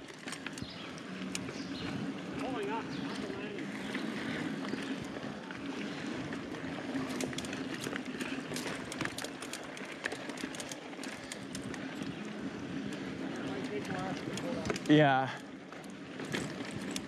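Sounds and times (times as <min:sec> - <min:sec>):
bike rattling over bumps: 0:00.0 - 0:17.0
bike tyre and riding noise: 0:00.0 - 0:17.0.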